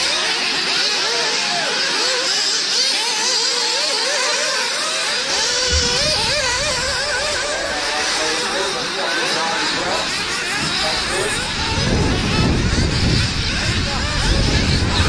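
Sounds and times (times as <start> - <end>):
rc buggy engines whining: 0.0 - 15.0.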